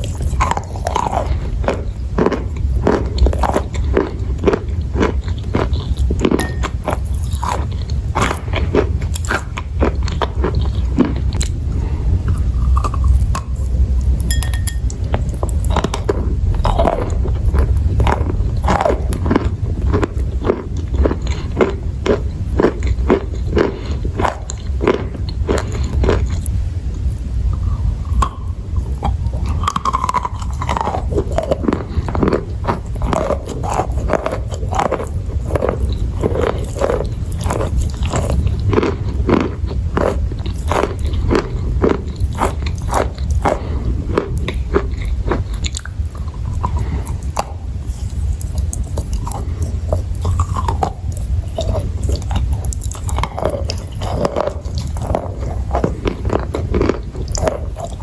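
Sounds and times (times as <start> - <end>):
person chewing crunchy chalk: 0.0 - 58.0.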